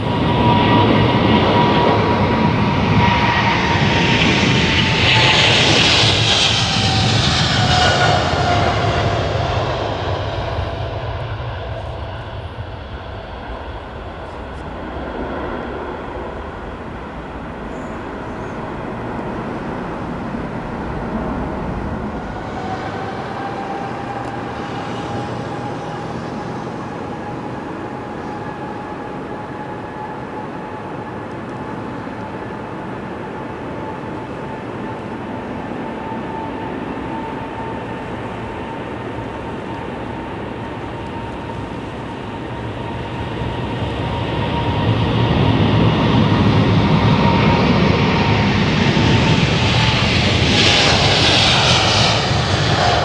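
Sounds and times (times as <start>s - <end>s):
jet engine with faint whine: 0.0s - 53.0s
jet taking off with whine: 0.0s - 53.0s.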